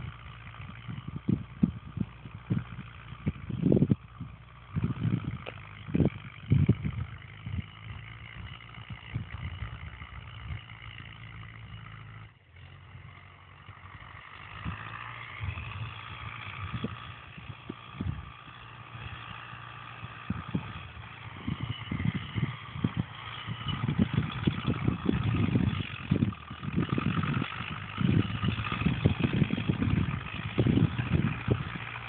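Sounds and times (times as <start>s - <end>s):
wind buffeting microphone: 0.0s - 12.2s, 12.9s - 32.0s
tractor diesel engine running: 0.0s - 32.0s.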